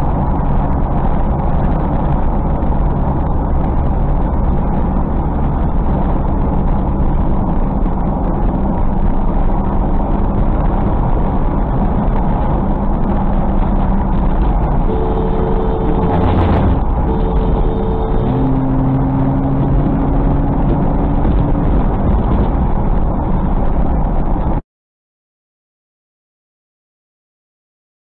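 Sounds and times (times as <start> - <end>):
car road and engine noise: 0.0 - 24.6.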